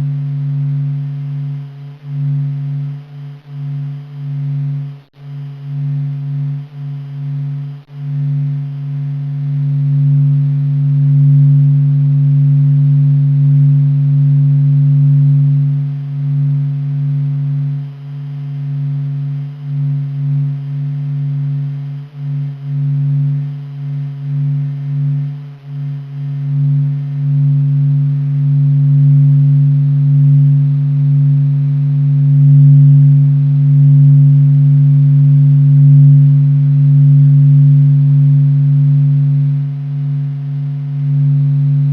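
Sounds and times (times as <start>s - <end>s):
deep steady drone: 0.0s - 41.9s.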